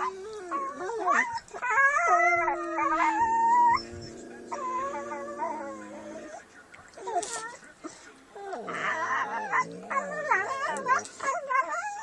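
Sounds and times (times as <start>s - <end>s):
dogs howling and whining: 0.0s - 6.5s, 8.4s - 12.0s.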